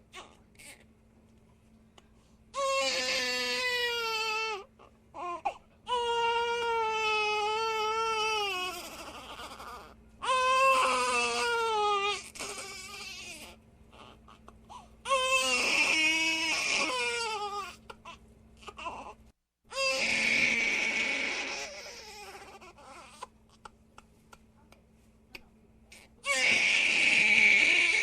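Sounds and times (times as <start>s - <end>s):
infant crying: 2.6s - 23.6s, 26.2s - 28.0s.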